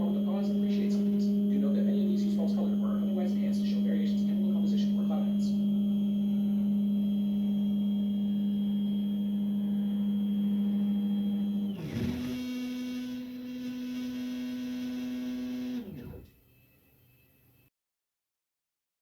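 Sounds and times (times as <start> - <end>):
stepper motors whining: 0.0 - 17.3.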